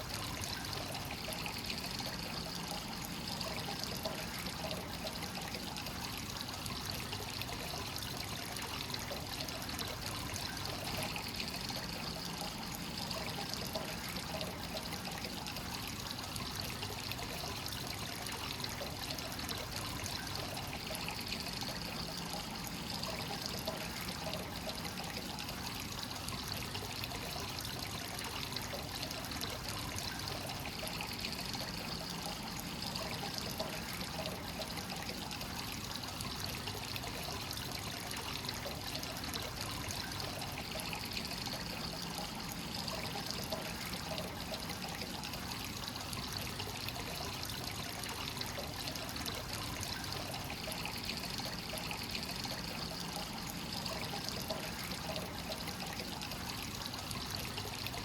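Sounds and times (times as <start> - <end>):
water trickling into a bath: 0.0 - 58.0.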